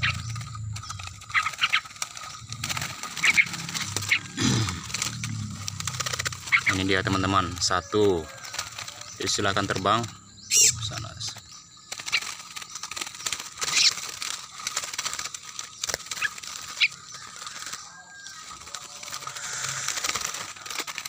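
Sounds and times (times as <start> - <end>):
bird wings rustling on takeoff: 0.0 - 10.1, 10.9 - 21.0.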